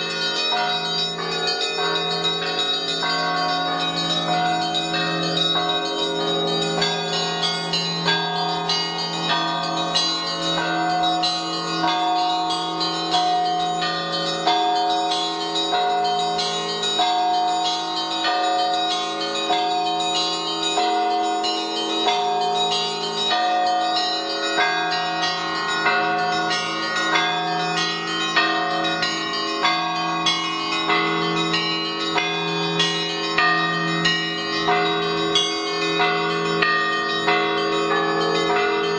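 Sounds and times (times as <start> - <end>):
small church bells ringing: 0.0 - 38.9.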